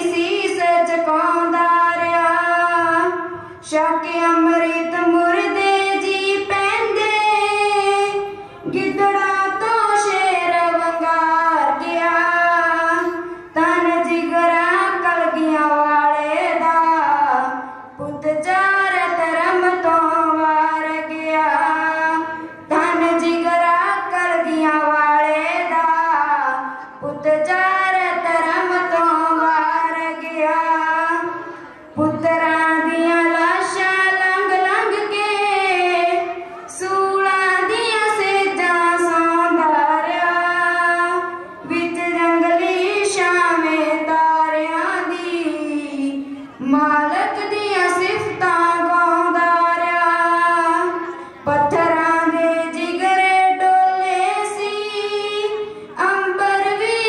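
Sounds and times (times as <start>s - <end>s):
girl singing: 0.0s - 57.0s.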